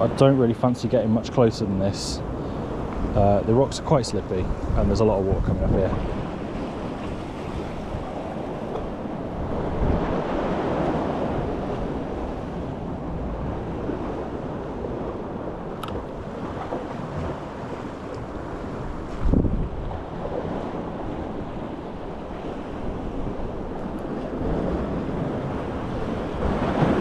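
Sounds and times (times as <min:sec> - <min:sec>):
sea swell washing against rocks: 0:00.0 - 0:27.0
wind on microphone: 0:01.0 - 0:27.0.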